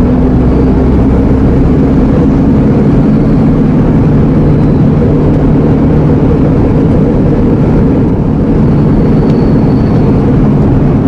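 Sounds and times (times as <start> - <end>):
lorry diesel engine running: 0.0 - 11.0
road noise: 0.0 - 11.0.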